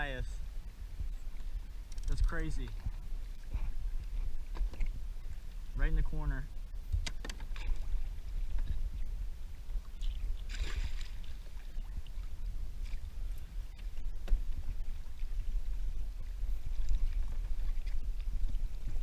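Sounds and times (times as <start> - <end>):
steady low rumble: 0.0 - 19.0
water sloshing and splashing: 0.0 - 19.0.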